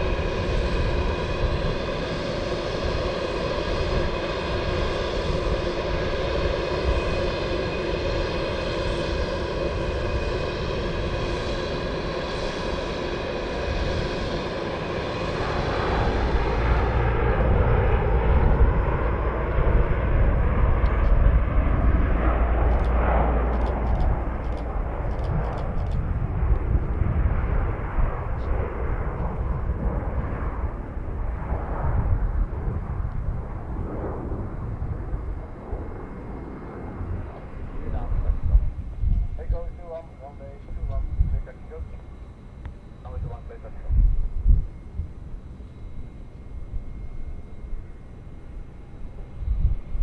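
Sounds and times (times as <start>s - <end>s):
aircraft flying overhead rumble: 0.0s - 50.0s
turboprop engines whining on ground: 0.0s - 50.0s.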